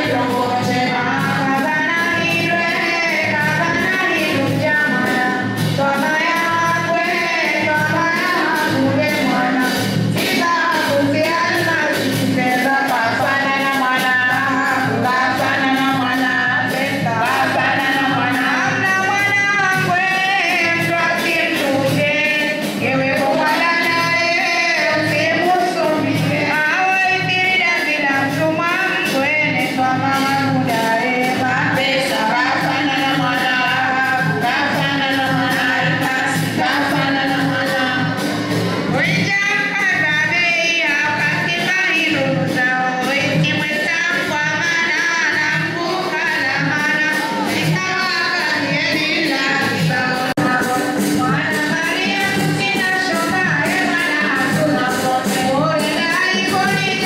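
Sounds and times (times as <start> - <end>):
rattling tambourine-like percussion: 0.0 - 57.0
steady percussion beat: 0.0 - 57.0
women singing together: 0.0 - 57.0.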